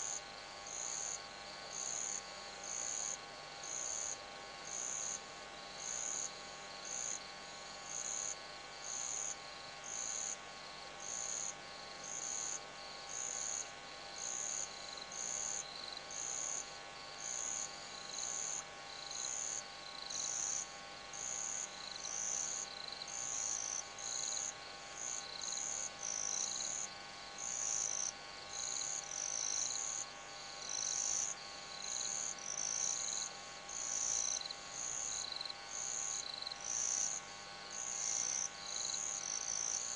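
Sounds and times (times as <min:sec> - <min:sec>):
insects chirping: 0:00.0 - 0:05.2, 0:11.0 - 0:39.9
faint steady hum: 0:00.0 - 0:39.9.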